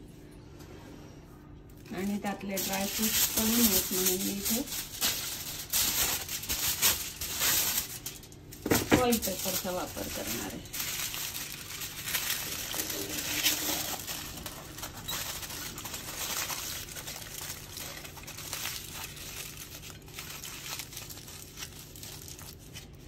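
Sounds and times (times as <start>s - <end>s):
aluminium foil crinkling: 1.7s - 23.0s.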